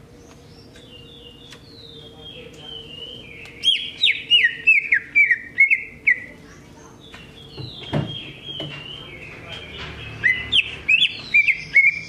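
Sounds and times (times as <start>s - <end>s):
bird singing whistled notes: 0.2s - 6.4s, 7.0s - 12.0s.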